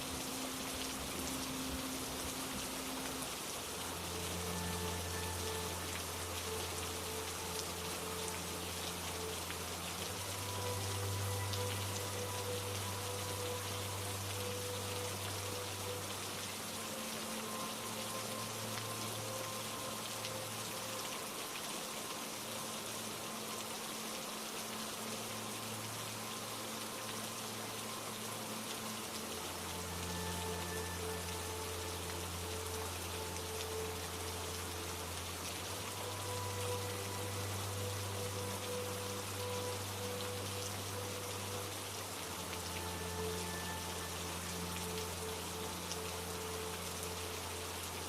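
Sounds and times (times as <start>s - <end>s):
low sustained drone: 0.0s - 48.0s
steady rain: 0.0s - 48.0s.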